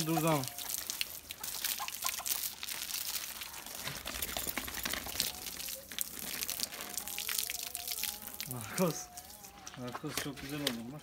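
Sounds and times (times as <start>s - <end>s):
water splashing and dripping on dog: 0.0s - 11.0s.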